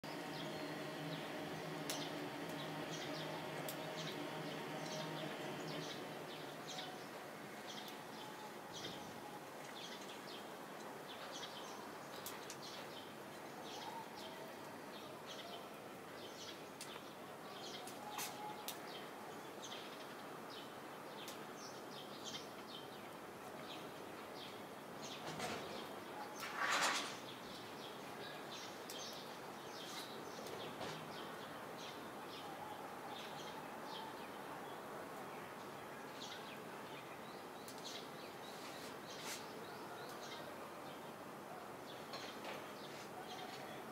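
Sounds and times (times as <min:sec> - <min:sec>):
outdoor background noise: 0:00.0 - 0:43.9
small birds chirping: 0:00.1 - 0:43.9.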